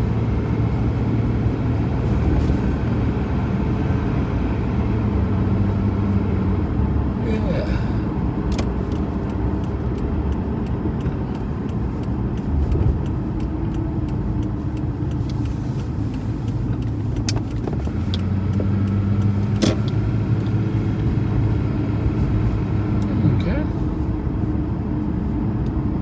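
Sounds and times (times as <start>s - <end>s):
car engine: 0.0s - 26.0s
road rumble: 0.0s - 26.0s.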